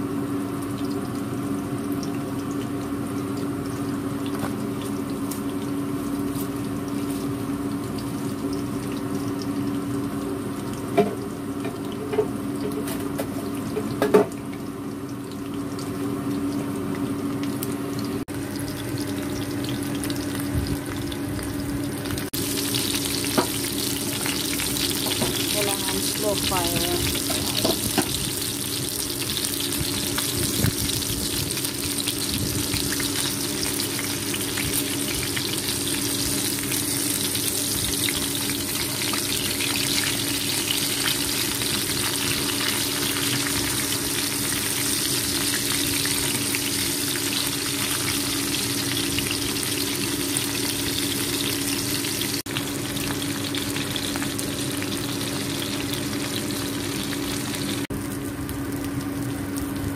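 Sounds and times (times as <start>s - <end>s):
fish sizzling in hot oil: 0.1s - 59.9s.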